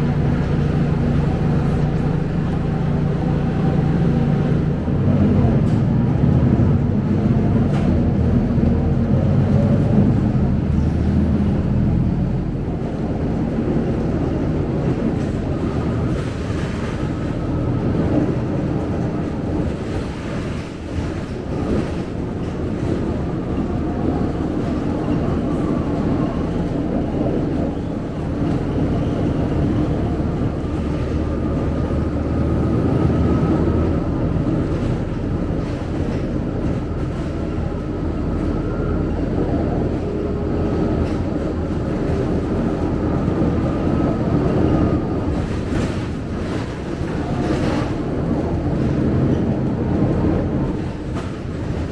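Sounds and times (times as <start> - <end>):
bus engine and road noise: 0.0 - 51.9.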